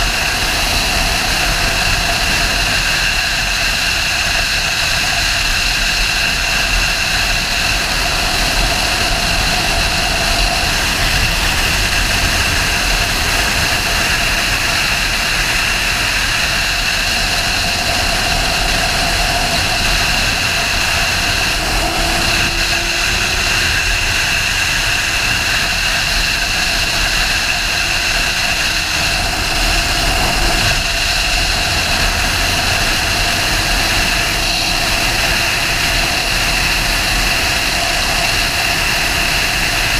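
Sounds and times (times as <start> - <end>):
motorcycle engine drone: 0.0 - 39.9
wind rush: 0.0 - 39.9.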